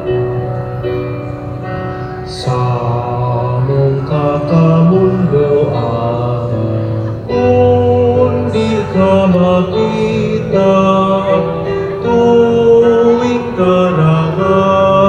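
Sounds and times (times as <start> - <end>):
instrumental accompaniment: 0.0 - 15.0
voices singing a slow hymn: 2.3 - 15.0.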